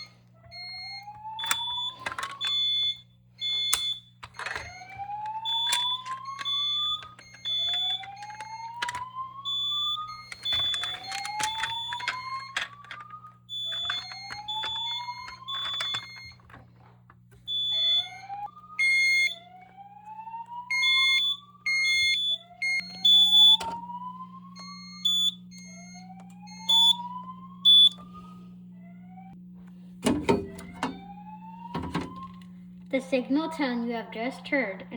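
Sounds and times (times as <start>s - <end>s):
rising whoop alarm tone: 0.0s - 2.9s, 3.7s - 16.5s, 17.5s - 29.4s, 30.5s - 32.6s
alarm horn pulses: 0.0s - 34.9s.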